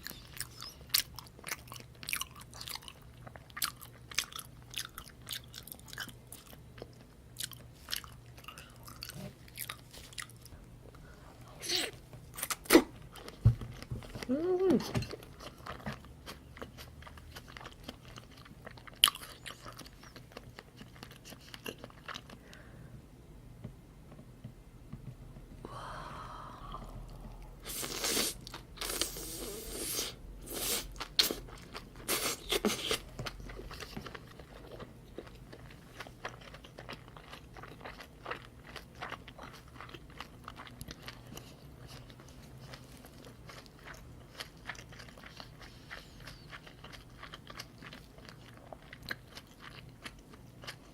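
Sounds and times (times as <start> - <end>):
chewing food: 0.0 - 10.6, 11.6 - 22.6, 31.0 - 50.9.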